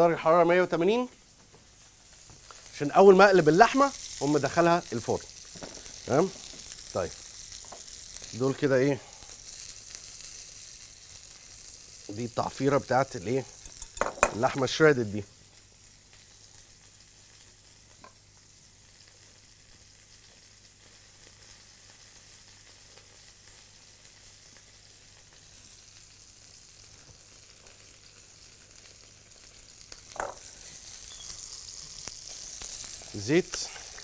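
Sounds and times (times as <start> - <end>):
potatoes sizzling in oil: 0.0 - 34.0.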